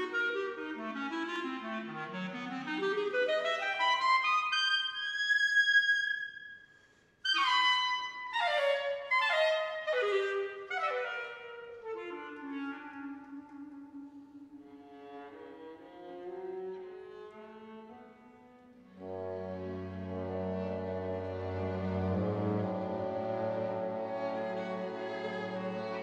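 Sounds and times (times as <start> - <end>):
solo clarinet: 0.0 - 6.6, 7.2 - 26.0.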